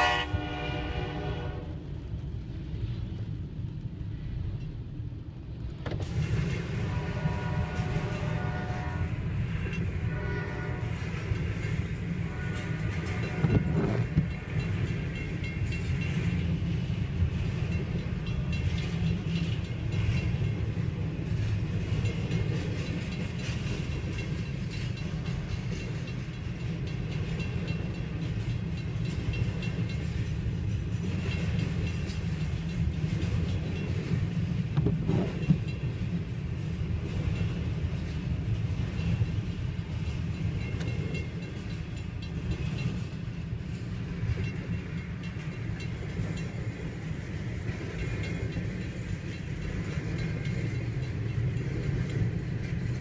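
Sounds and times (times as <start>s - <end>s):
freight train cars rumbling: 0.0s - 53.0s
wheels clacking over rail joints: 5.5s - 53.0s.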